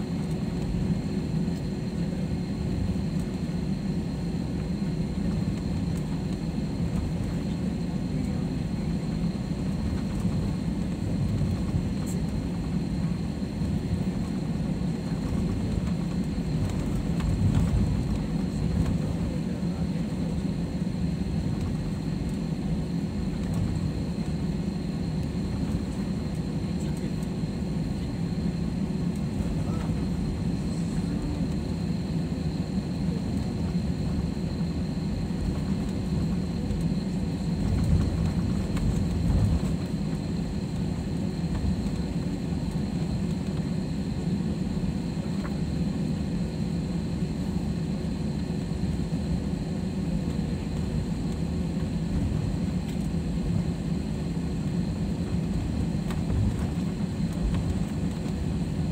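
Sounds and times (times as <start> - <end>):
jet engine cabin rumble: 0.0 - 58.9.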